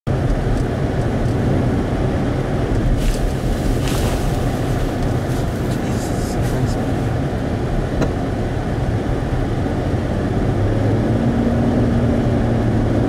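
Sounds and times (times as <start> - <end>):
road and wind noise in car: 0.1 - 13.0.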